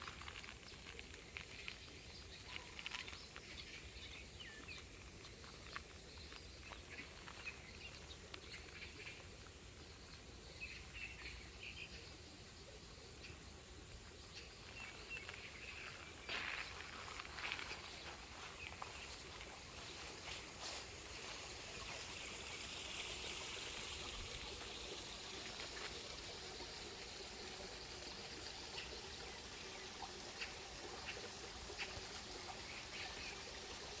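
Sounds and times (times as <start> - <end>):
water trickling in stream: 0.0 - 34.0.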